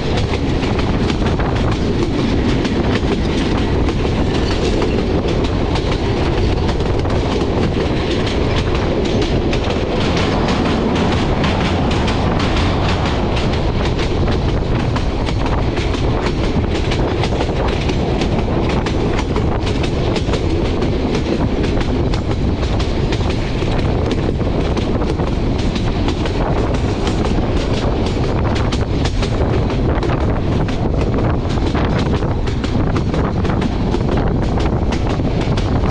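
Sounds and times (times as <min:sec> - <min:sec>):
wheels clattering over rail joints: 0:00.0 - 0:29.4
train wheels rumbling on rail: 0:00.0 - 0:35.9.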